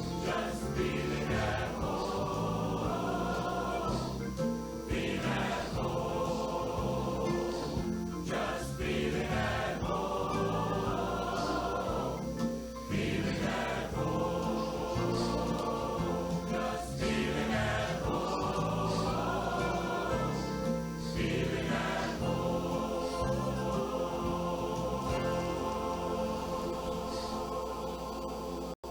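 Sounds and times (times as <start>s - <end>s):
choir singing a hymn: 0.0s - 28.9s.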